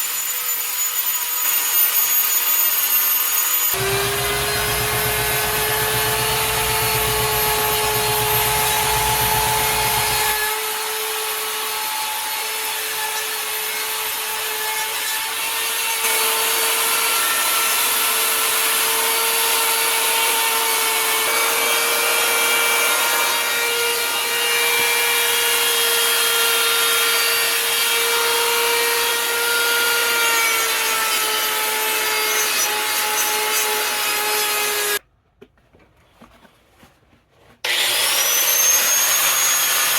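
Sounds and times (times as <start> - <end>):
power carving tool cutting wood: 0.0 - 35.0, 37.6 - 39.9.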